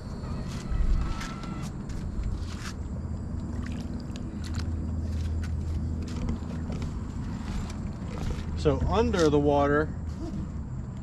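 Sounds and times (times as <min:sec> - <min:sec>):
boat motor humming: 0:00.0 - 0:10.8.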